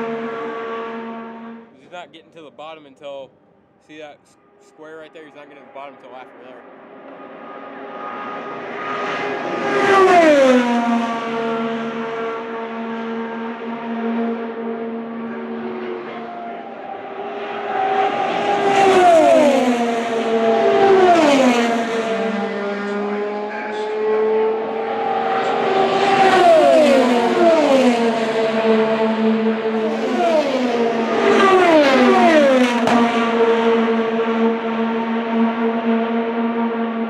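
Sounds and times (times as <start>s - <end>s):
race cars passing at speed: 0.0s - 2.5s, 4.2s - 37.0s
distant engine drone: 0.0s - 37.0s.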